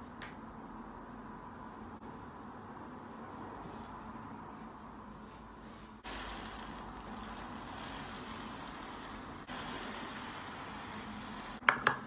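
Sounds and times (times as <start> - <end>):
background room hiss: 0.0 - 12.0.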